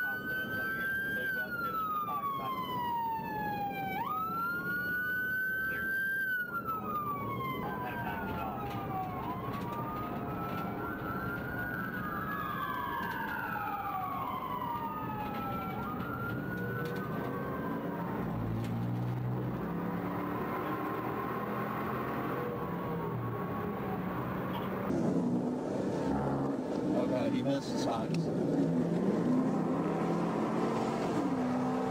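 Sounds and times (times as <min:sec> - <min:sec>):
car engine and tyres rumbling: 0:00.0 - 0:31.9
police sirens wailing: 0:00.0 - 0:31.9.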